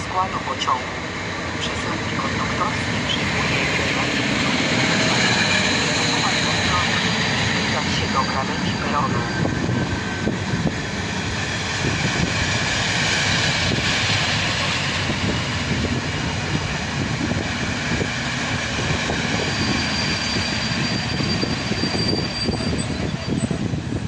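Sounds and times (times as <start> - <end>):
train coaches rolling past: 0.0 - 24.0.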